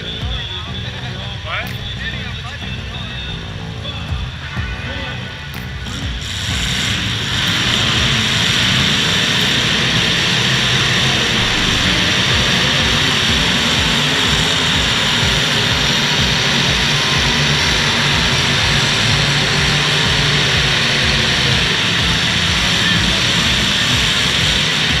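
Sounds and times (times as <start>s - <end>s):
car engines running hard: 0.0s - 25.0s.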